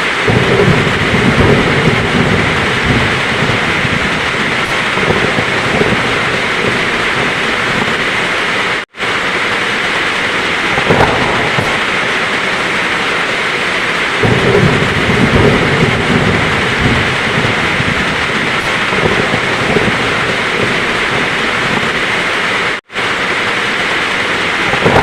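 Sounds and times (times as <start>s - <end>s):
heavy rain falling: 0.0s - 25.0s
low thunder rumbling: 0.0s - 25.0s.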